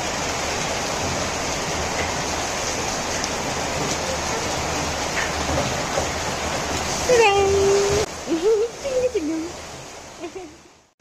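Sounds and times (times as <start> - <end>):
runoff streaming off metal roof: 0.0 - 10.9
heavy rain: 0.0 - 11.0.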